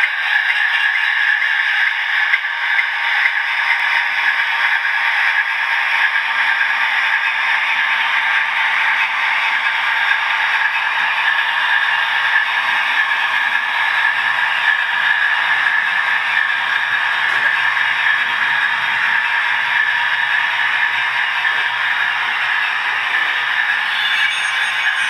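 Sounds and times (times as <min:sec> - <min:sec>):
model train wheels on rails: 0:00.0 - 0:25.0
rail joint clicks: 0:00.0 - 0:25.0.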